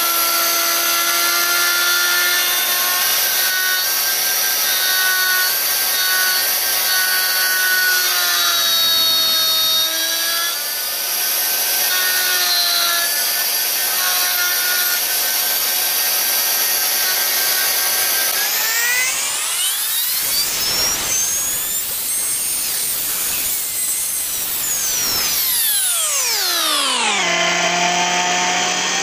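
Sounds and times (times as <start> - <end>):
router cutting into wood: 0.0 - 29.0.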